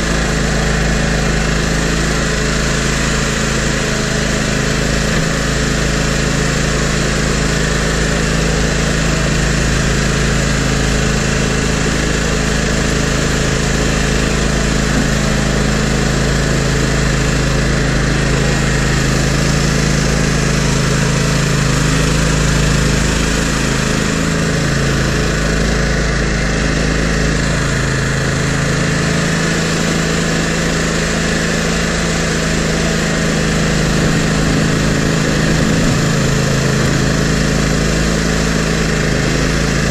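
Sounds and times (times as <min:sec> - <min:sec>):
mower engine running: 0:00.0 - 0:39.9
plow blade pushing snow: 0:00.0 - 0:39.9.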